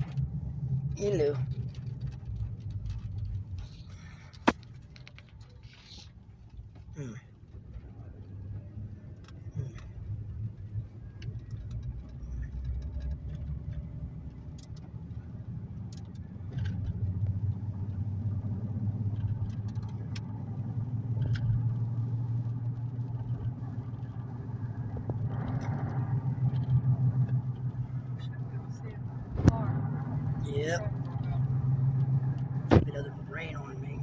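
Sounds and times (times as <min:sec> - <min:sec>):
car engine and road hum: 0:00.0 - 0:34.0.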